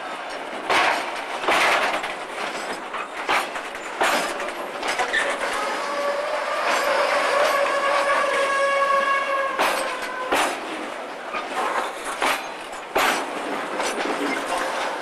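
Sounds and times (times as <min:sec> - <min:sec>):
wheels clacking over rail joints: 0:00.0 - 0:15.0.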